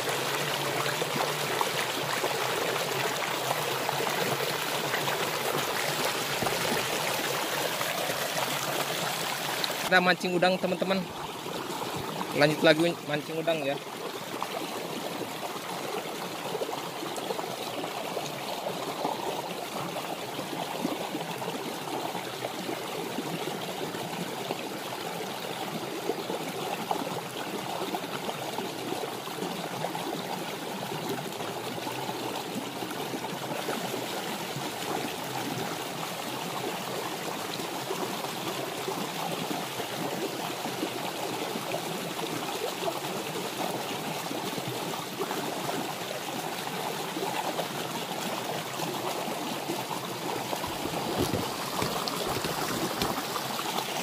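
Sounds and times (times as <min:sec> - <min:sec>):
stream running over stones: 0:00.0 - 0:54.0.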